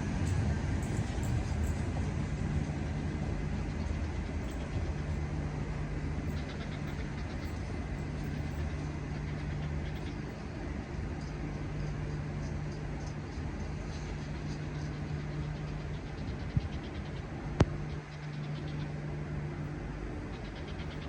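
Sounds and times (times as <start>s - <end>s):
electric train humming: 0.0s - 21.0s.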